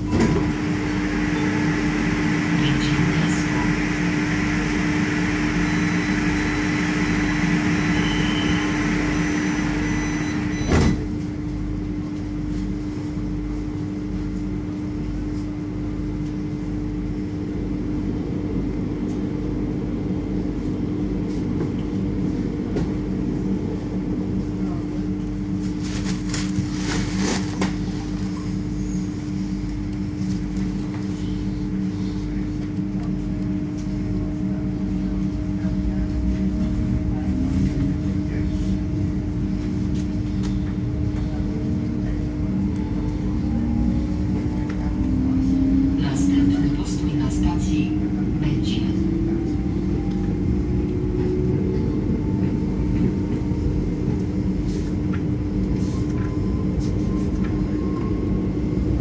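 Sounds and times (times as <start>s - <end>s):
train electrical hum: 0.0s - 59.0s.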